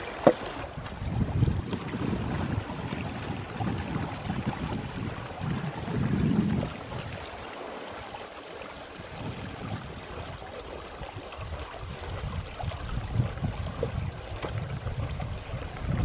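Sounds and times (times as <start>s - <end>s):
water splashing along hulls: 0.0s - 16.0s.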